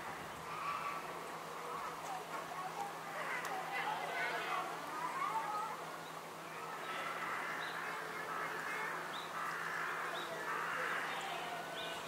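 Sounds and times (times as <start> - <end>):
murmur of distant voices: 0.0 - 12.0.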